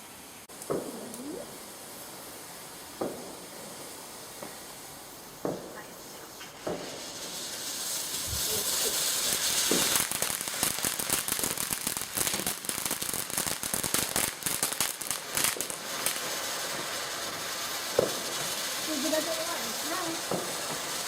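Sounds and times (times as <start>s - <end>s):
firework crackling pops: 0.0s - 21.0s
firework hissing: 0.0s - 21.0s.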